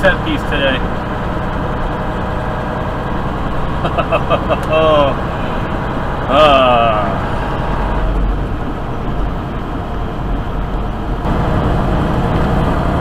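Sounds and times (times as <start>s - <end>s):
truck engine and tyre drone: 0.0s - 13.0s.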